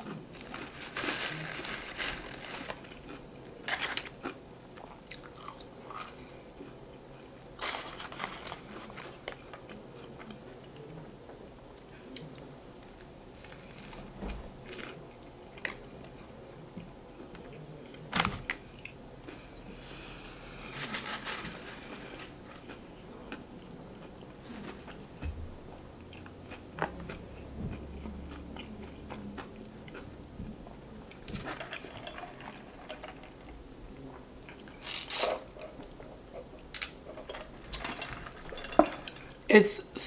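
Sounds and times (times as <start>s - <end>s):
chewing crispy food: 0.0s - 11.2s, 11.8s - 19.7s, 20.6s - 25.2s, 26.0s - 39.4s.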